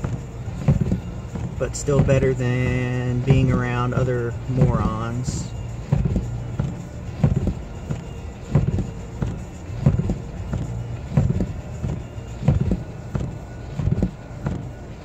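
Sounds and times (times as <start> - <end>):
car interior low drone: 0.0 - 15.0
regular thumping: 0.0 - 15.0.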